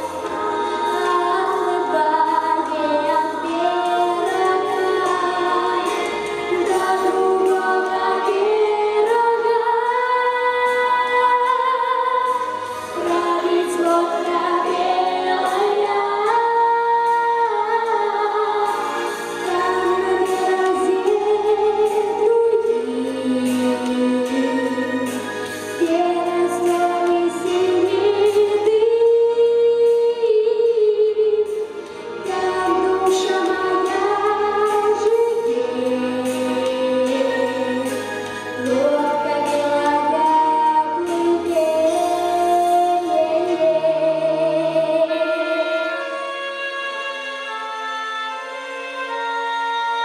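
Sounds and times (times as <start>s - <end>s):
boy singing into a microphone: 0.0s - 25.2s, 25.8s - 31.6s, 32.2s - 38.0s, 38.6s - 47.6s.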